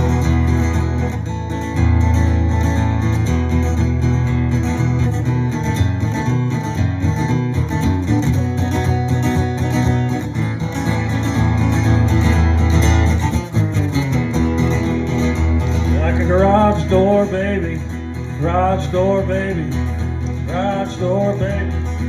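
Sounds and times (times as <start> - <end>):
bass line: 0.0 - 22.0
blues guitar: 0.0 - 22.0.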